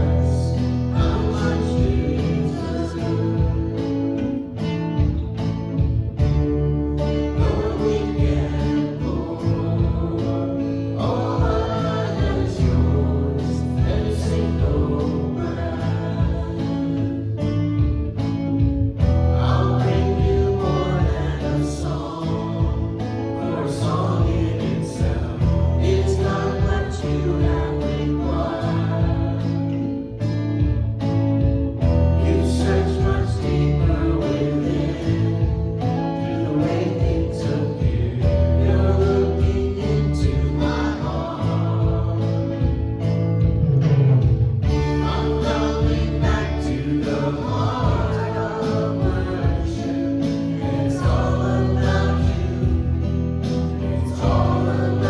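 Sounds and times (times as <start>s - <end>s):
voices singing worship song: 0.0s - 55.0s.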